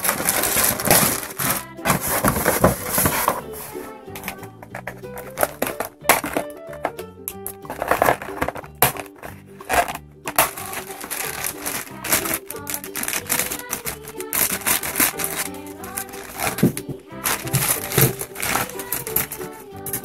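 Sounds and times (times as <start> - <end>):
scissors snipping plastic: 0.0 - 3.4, 4.2 - 6.5, 7.4 - 20.0
plastic bag crinkling: 0.0 - 6.4, 7.7 - 20.0
light background music: 0.0 - 20.0.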